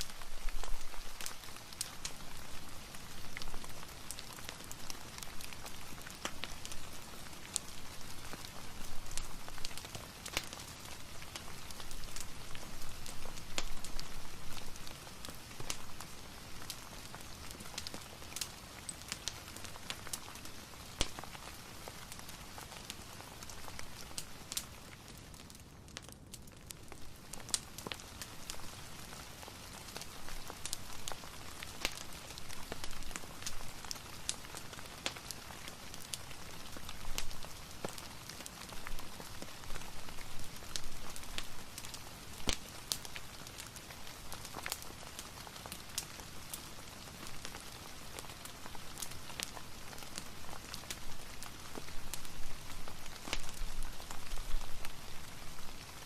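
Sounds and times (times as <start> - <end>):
steady rain hiss: 0.0 - 56.0
wood fire crackling: 0.0 - 56.0.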